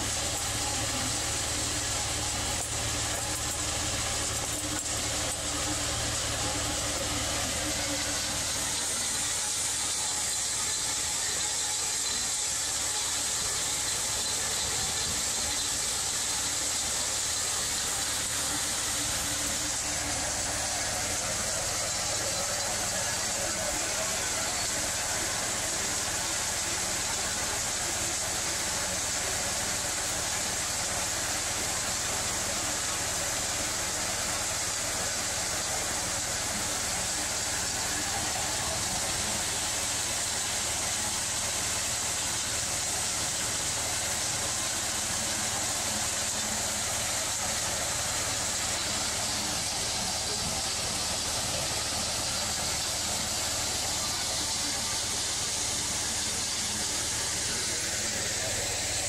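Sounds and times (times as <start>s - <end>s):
hammer mill running: 0.0s - 59.0s.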